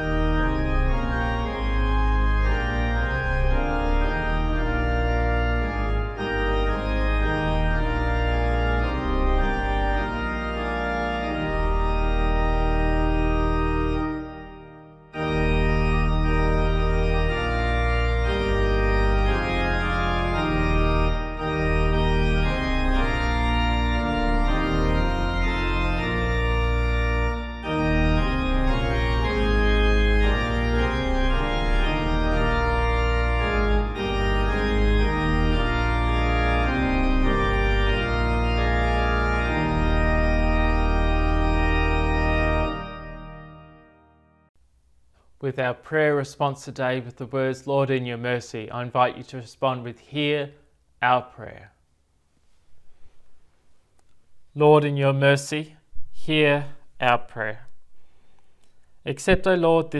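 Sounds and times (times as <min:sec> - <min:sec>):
organ playing a hymn: 0:00.0 - 0:44.6, 0:54.0 - 0:55.6, 0:56.3 - 0:59.9.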